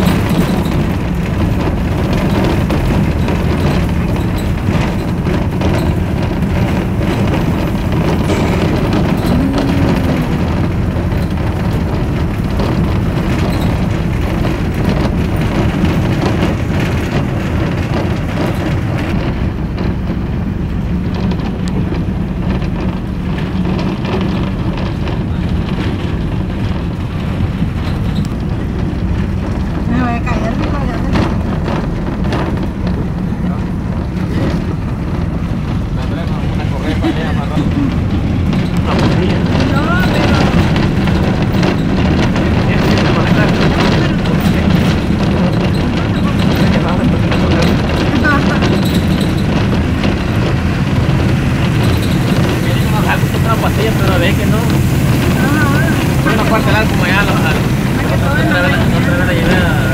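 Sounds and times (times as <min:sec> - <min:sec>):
vehicle engine and road drone: 0:00.0 - 0:59.9.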